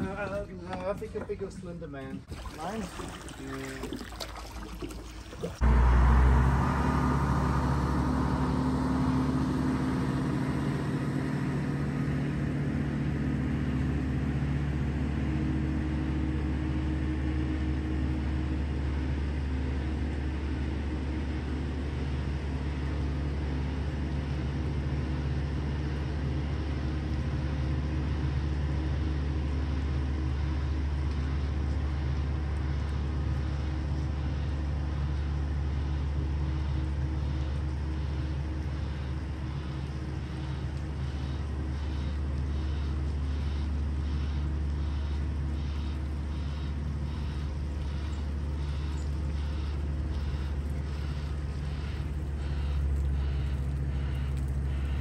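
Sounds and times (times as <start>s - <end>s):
vehicle engine droning: 5.5s - 55.0s.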